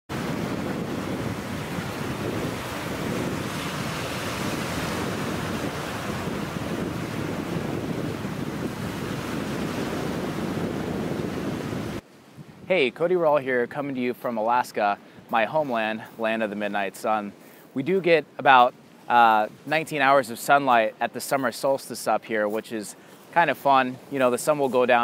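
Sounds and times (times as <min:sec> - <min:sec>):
ocean waves breaking on shore: 0:00.1 - 0:25.0.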